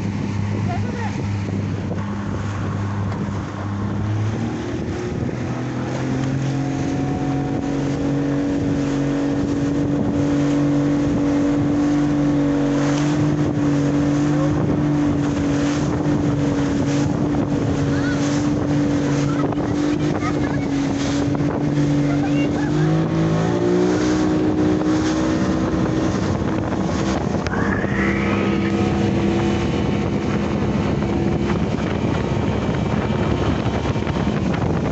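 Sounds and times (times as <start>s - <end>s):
water slapping against hull: 0.0s - 27.5s, 28.7s - 34.9s
speedboat engine running: 0.0s - 34.9s.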